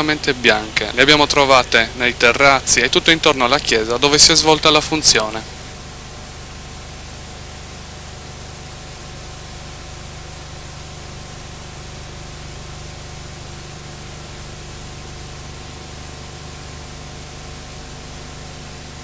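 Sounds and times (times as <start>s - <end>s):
low electrical hum: 0.0s - 19.0s
steady hiss: 0.0s - 19.0s.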